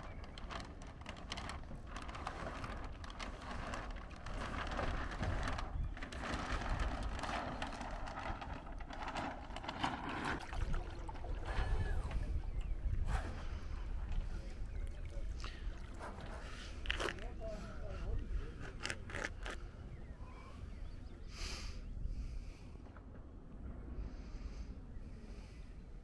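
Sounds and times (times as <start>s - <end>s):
wind buffeting microphone: 0.0s - 21.2s.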